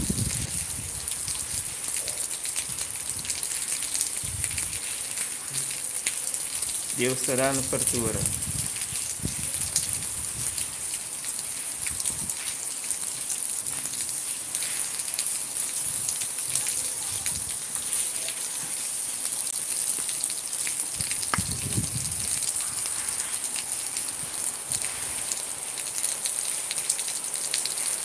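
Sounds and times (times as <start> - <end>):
steady rainfall: 0.0 - 28.0.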